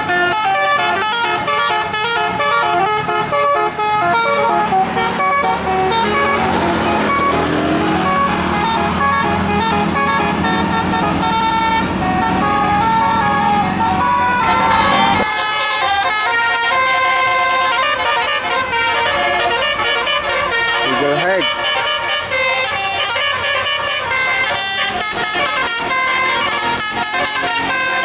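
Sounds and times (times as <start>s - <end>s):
bus engine rumble: 0.0s - 28.0s
musical bus horn melody: 0.0s - 28.0s.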